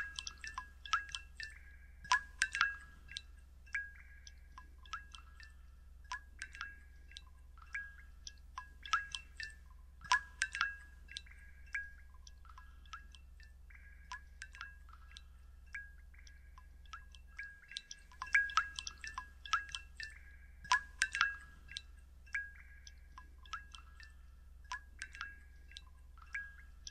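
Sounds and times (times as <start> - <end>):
water dripping with ringing ping: 0.0 - 26.9.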